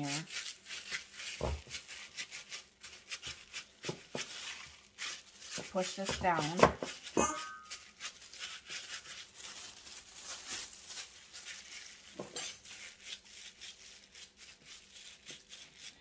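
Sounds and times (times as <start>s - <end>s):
gloved hands squishing meat: 0.0s - 16.0s.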